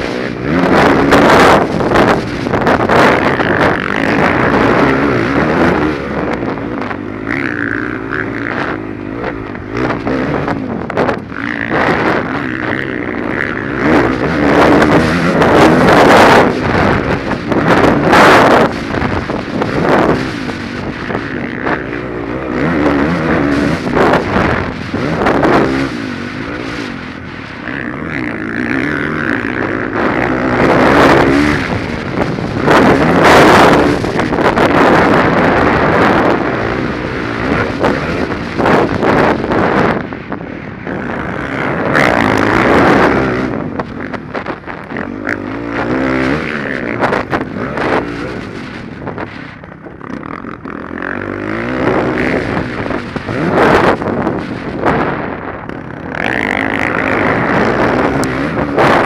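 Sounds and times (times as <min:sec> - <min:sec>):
dirt bike engine revving: 0:00.0 - 0:59.0
wind on microphone: 0:00.0 - 0:59.0.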